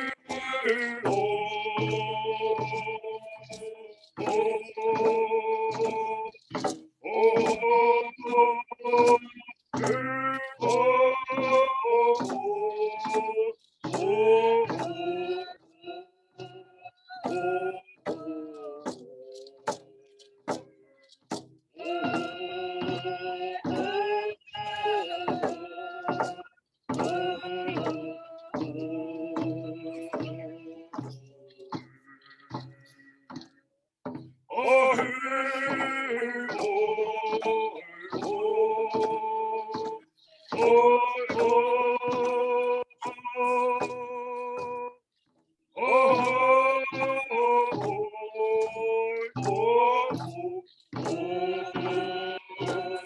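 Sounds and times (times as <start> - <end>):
hand drum beats: 0.0 - 3.6, 4.2 - 15.5, 17.2 - 44.9, 45.8 - 53.0
group of voices singing: 0.0 - 20.9, 21.8 - 33.5, 34.5 - 45.0, 45.8 - 53.0.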